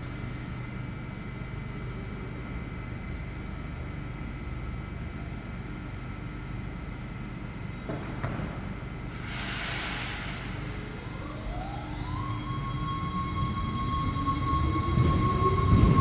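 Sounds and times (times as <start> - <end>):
train equipment humming and whining: 0.0 - 16.0.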